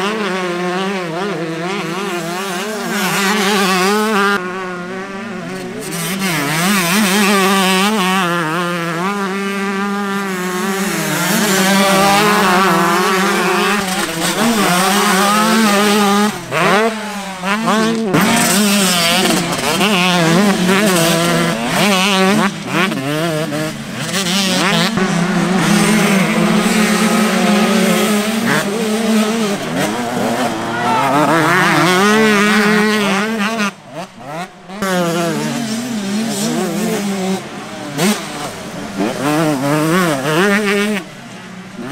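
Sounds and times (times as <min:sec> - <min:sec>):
motocross bike engines revving: 0:00.0 - 0:41.9.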